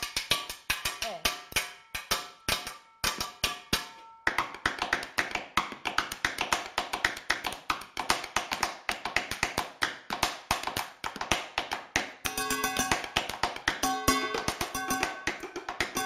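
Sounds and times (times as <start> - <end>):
sticks drumming on metal pots: 0.0 - 9.8, 10.4 - 16.0.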